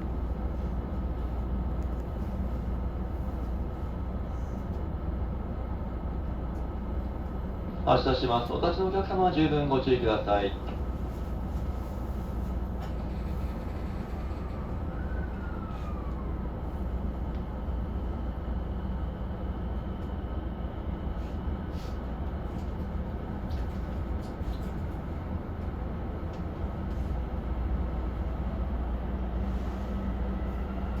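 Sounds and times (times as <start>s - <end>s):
train running gear rumble: 0.0s - 31.0s.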